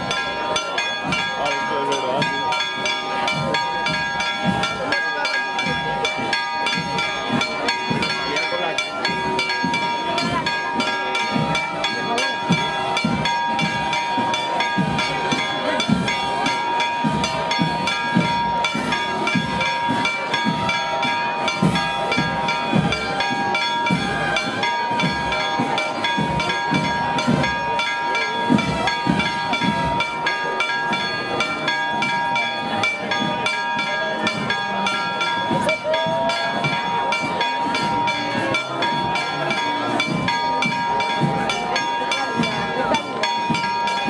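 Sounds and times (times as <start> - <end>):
crowd chatter: 0.0 - 44.0
steady drumbeat: 0.0 - 44.0.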